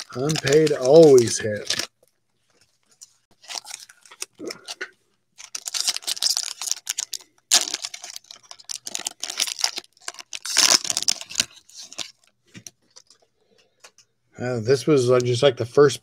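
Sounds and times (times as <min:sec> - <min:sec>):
cellophane wrapper crinkling and tearing: 0:00.0 - 0:13.3.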